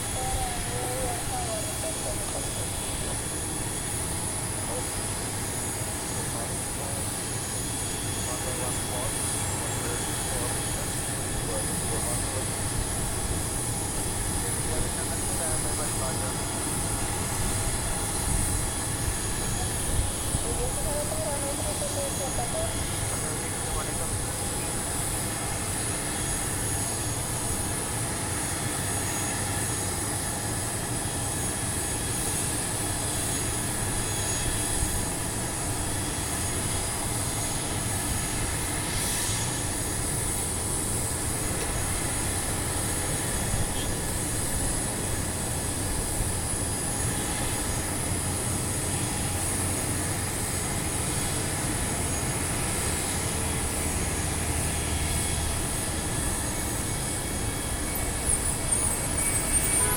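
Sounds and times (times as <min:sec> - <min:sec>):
jet turbine whine: 0:00.0 - 0:59.9.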